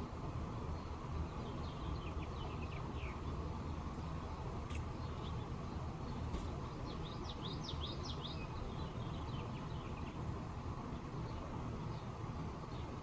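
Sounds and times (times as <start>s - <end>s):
songbird chirping: 0.7s - 13.0s.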